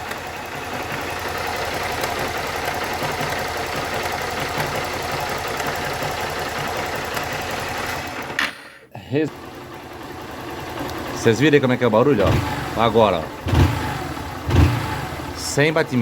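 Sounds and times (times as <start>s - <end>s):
fast repeated engine tapping: 0.0s - 8.4s, 9.3s - 16.0s
motorcycle engine idling: 0.0s - 8.4s, 9.1s - 16.0s.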